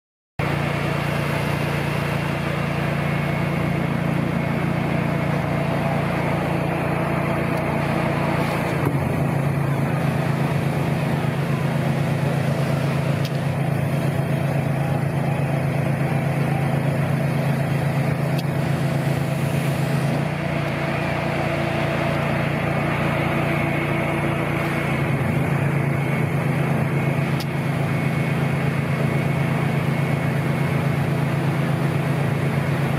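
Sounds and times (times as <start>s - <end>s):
engine running: 0.4s - 32.9s.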